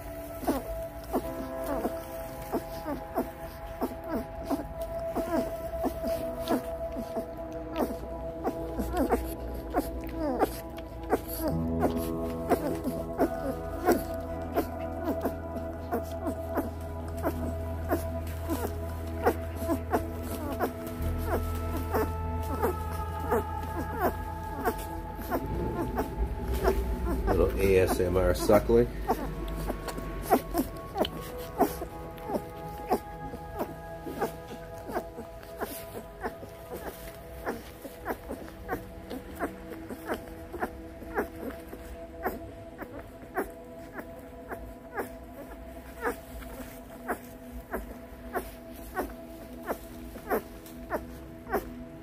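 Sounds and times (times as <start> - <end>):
puppies squeaky cries: 0.0 - 52.0
steady low hum: 0.0 - 52.0.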